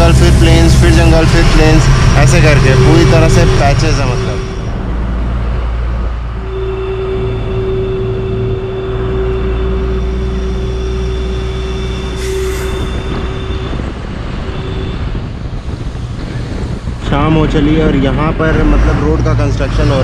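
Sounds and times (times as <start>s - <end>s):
steady whine: 0.0s - 20.0s
truck engine rumble: 0.0s - 20.0s.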